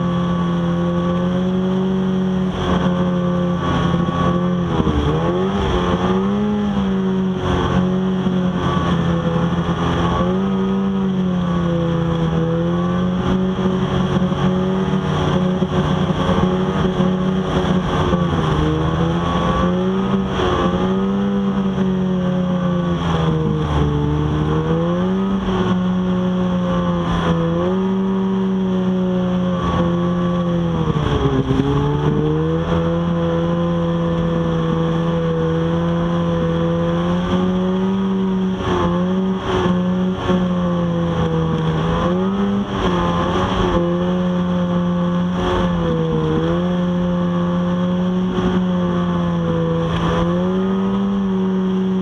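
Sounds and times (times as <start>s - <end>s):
snowmobile engine running: 0.0s - 52.0s.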